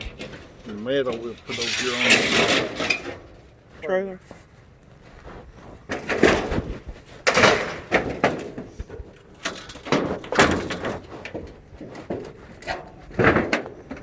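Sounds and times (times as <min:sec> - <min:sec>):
scrap metal clanging onto trailer: 0:00.0 - 0:03.6, 0:05.9 - 0:14.0.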